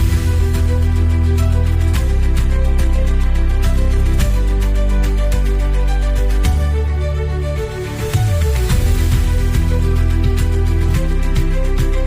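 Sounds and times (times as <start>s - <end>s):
sustained bass notes: 0.0s - 12.0s.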